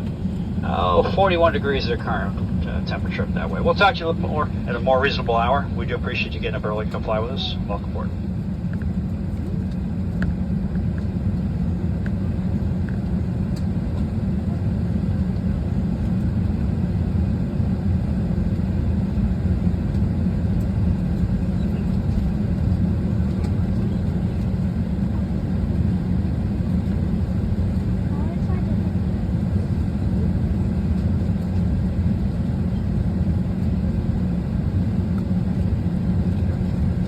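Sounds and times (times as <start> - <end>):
aircraft cabin rumble: 0.0 - 37.0.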